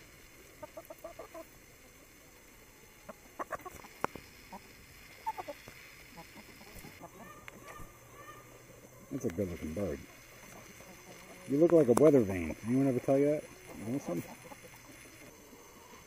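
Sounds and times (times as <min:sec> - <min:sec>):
hens clucking softly: 0:00.4 - 0:16.0.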